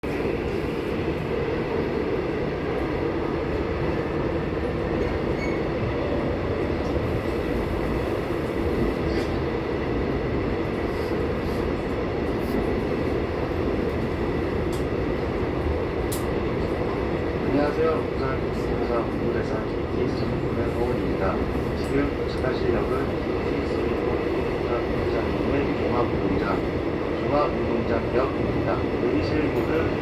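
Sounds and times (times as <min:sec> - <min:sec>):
subway train rumble: 0:00.0 - 0:30.0.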